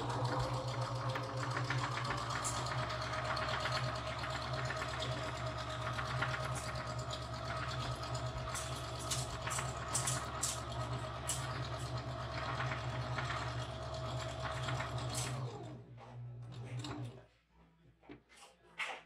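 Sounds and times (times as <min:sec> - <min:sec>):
sewing machine running: 0:00.0 - 0:15.8.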